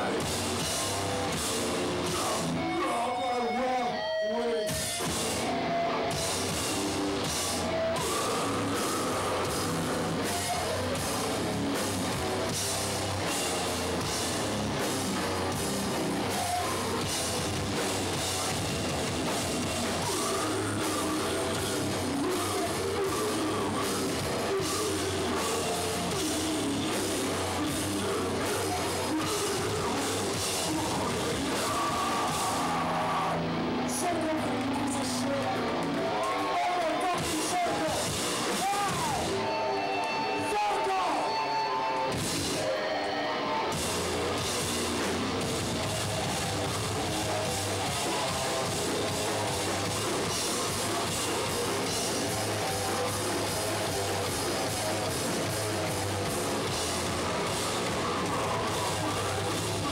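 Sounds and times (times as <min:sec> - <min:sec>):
distorted guitar and bass: 0:00.0 - 0:59.9
shouted vocals: 0:07.2 - 0:12.5, 0:13.4 - 0:59.9.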